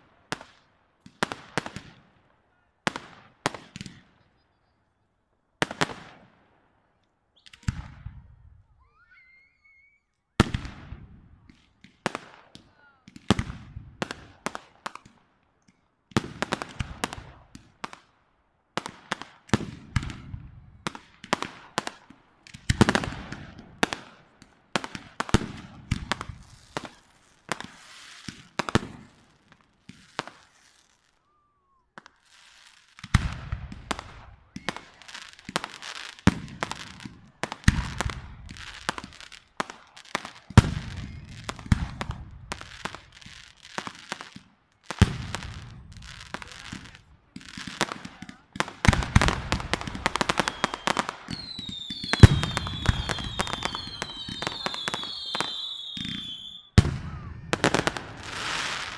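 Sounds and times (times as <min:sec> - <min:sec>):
fireworks bangs and crackles: 0:00.0 - 0:04.5, 0:05.6 - 0:06.7, 0:07.4 - 0:08.6, 0:10.4 - 0:31.2, 0:31.9 - 0:58.9.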